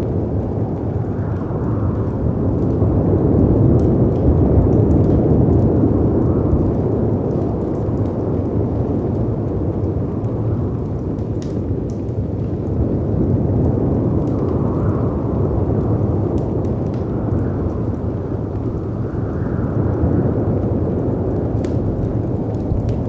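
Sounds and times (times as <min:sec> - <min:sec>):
fireplace crackling: 0:00.0 - 0:23.0.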